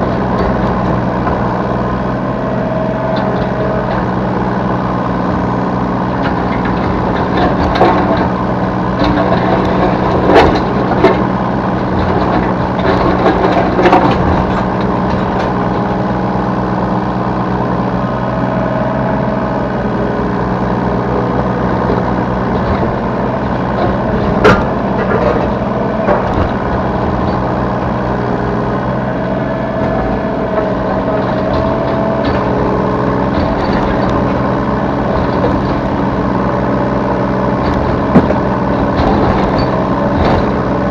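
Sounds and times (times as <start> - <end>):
excavator diesel engine running: 0.0 - 40.9
hydraulic whine: 0.0 - 40.9.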